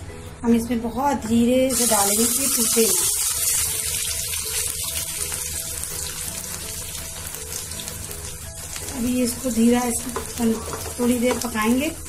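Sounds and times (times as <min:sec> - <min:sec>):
meat sizzling in hot oil: 0:01.7 - 0:12.0.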